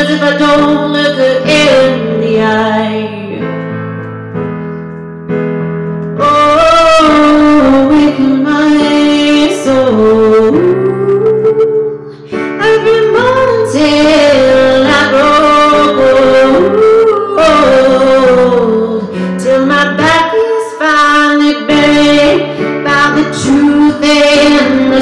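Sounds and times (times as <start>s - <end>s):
woman singing wordlessly: 0.0s - 3.6s, 6.2s - 25.0s
keyboard chords: 0.0s - 25.0s.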